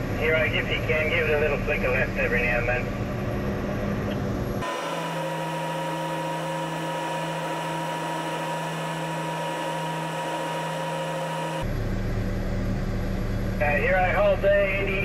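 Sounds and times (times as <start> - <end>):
high whirring engine hum: 0.0 - 15.0.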